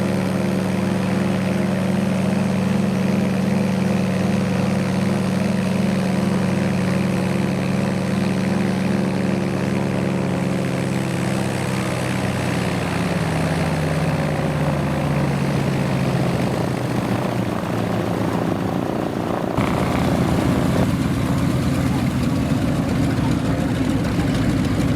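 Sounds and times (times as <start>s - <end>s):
piston aircraft engine running: 0.0s - 24.9s.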